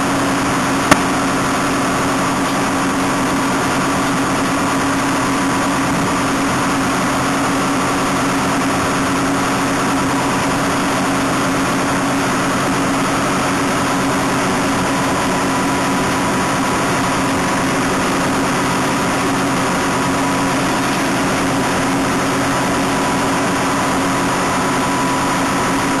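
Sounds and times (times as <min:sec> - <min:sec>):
harvester engine drone: 0:00.0 - 0:26.0
high machine whine: 0:00.0 - 0:26.0.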